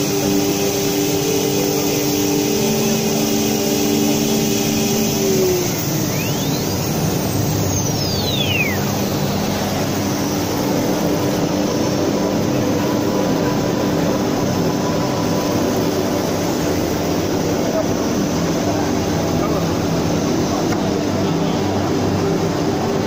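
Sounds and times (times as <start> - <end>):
high tone sweeping: 0.0 - 20.4
router spindle humming: 0.0 - 22.5.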